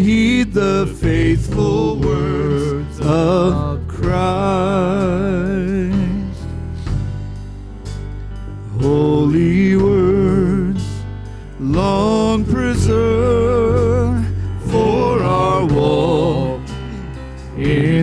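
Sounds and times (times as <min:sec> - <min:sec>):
person singing worship song: 0:00.0 - 0:07.1, 0:08.6 - 0:18.0
low instrumental backing: 0:00.0 - 0:18.0.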